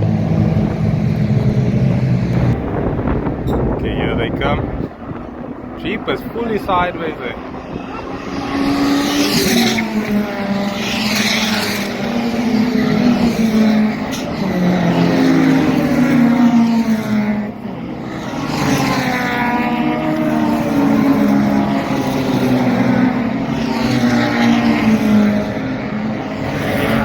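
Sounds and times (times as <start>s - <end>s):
racing cars passing: 0.0s - 27.0s.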